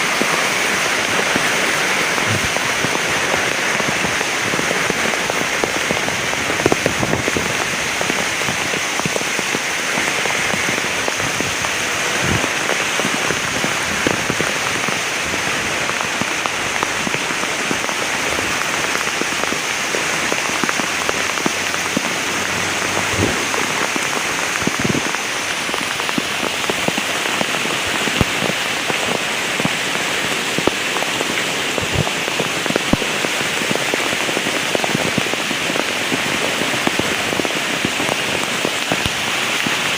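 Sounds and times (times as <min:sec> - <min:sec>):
heavy rain falling: 0:00.0 - 0:39.9
raindrops striking a surface: 0:00.0 - 0:39.9.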